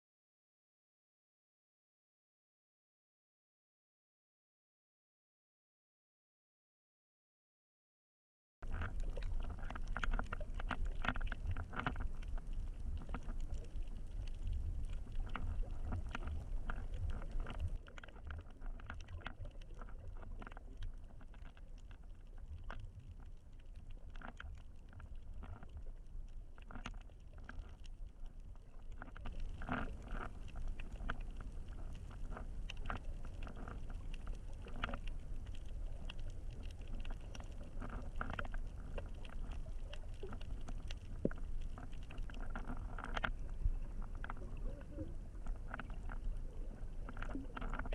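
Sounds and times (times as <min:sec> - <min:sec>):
muffled water sloshing and rushing: 0:08.6 - 0:47.9.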